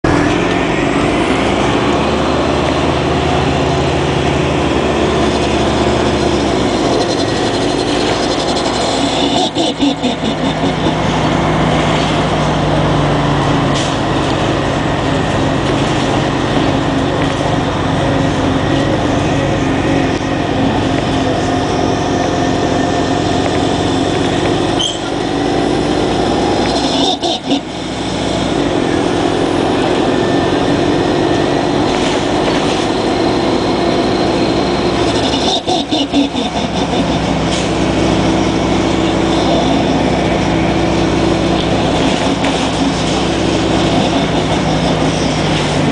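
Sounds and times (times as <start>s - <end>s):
bus engine running: 0.0s - 45.9s.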